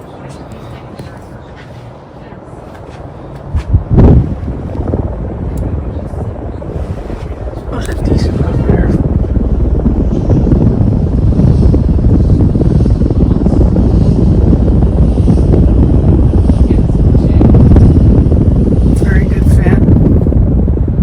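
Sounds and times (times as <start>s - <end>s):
ceiling fan wind noise on microphone: 0.0s - 21.0s.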